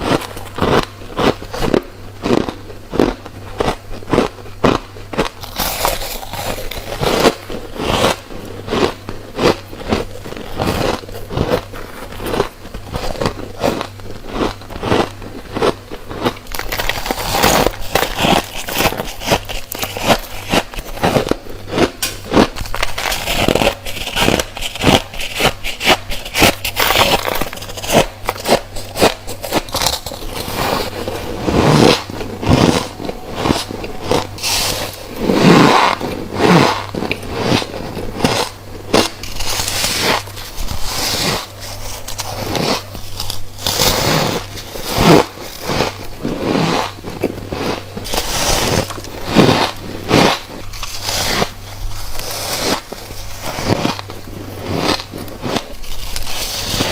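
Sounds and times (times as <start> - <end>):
crunching frozen frost: 0.0 - 56.9.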